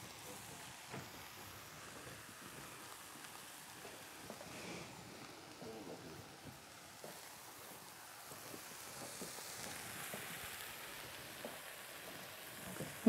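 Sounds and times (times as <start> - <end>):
food frying in a pan: 0.0 - 13.0.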